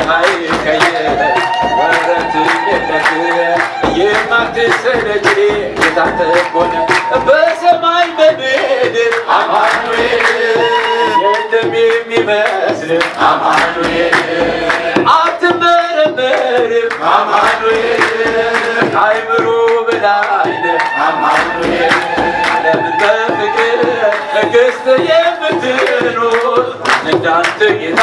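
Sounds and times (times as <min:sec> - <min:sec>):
hand clapping: 0:00.0 - 0:28.0
man singing a hymn into a microphone: 0:00.0 - 0:28.0.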